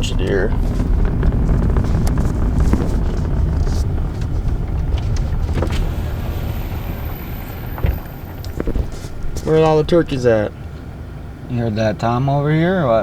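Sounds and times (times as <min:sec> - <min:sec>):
truck road rumble: 0:00.0 - 0:13.0.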